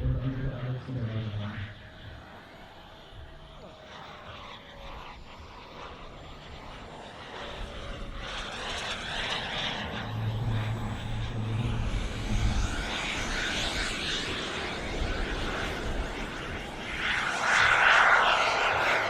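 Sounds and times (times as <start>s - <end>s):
model jet turbine flying past: 0.0s - 19.0s.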